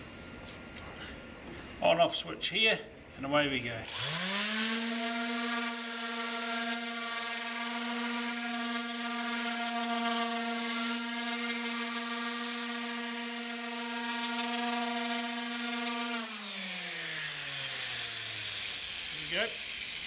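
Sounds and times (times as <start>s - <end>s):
orbital sander whining: 3.8s - 20.0s.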